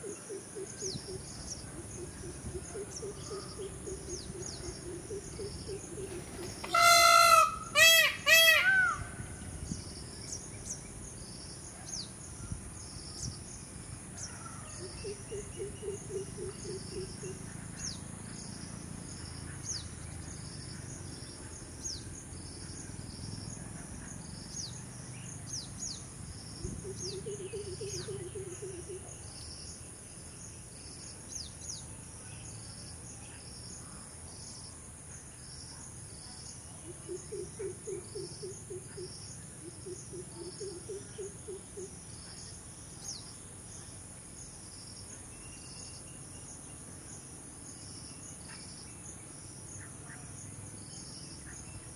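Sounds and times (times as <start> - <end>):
pulsing insect chirr: 0.0 - 51.9.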